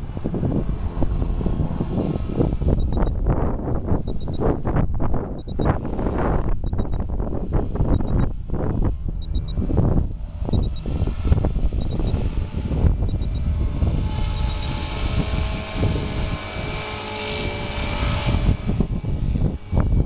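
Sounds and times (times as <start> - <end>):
rc helicopter rotor whining: 0.0 - 20.0
wind buffeting microphone: 0.0 - 20.0.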